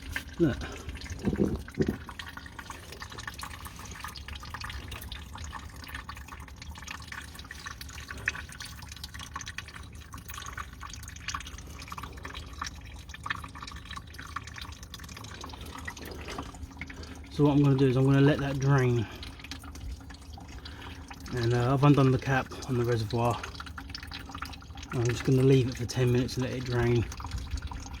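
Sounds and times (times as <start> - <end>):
water trickling and dripping: 0.0 - 28.0.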